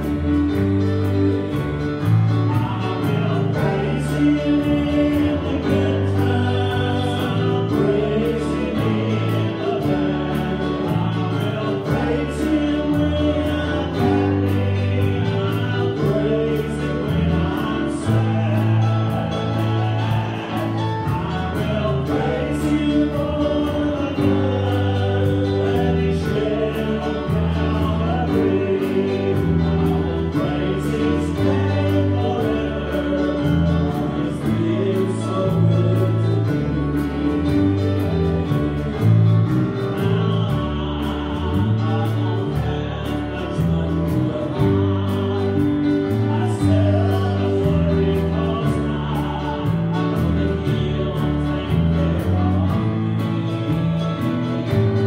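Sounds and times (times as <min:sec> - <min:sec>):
bass guitar: 0:00.0 - 0:55.0
drum kit beat: 0:00.0 - 0:55.0
electric guitars: 0:00.0 - 0:55.0
keyboard: 0:00.0 - 0:55.0
voices singing together: 0:00.0 - 0:55.0.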